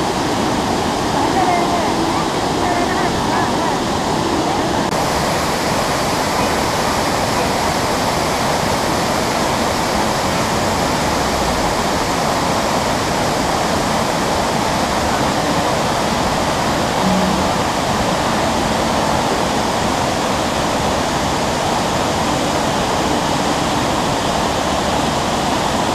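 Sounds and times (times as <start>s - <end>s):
waterfall rushing over rocks: 0.0s - 25.9s.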